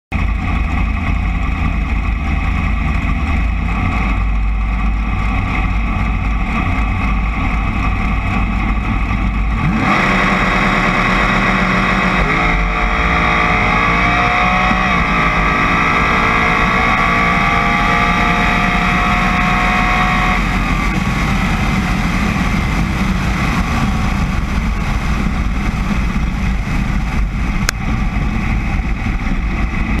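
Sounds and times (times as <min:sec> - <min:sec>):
dragster engine revving: 0:00.2 - 0:30.0.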